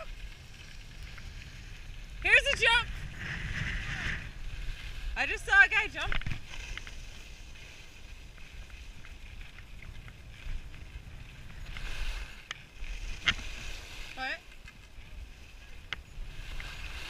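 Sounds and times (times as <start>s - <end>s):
skis scraping over snow: 0.0s - 17.0s
wind rumble on microphone: 0.0s - 17.0s.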